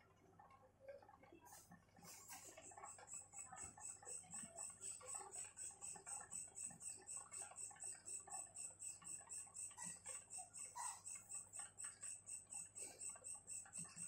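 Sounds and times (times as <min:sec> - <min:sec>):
insect chirping: 0:02.6 - 0:14.0.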